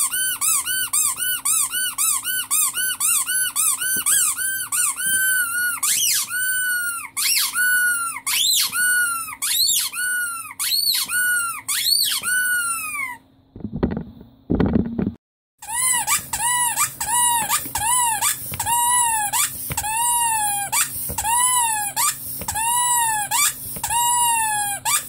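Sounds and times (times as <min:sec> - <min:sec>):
rubber squeaky toy squeaking: 0:00.0 - 0:13.2, 0:15.6 - 0:25.0.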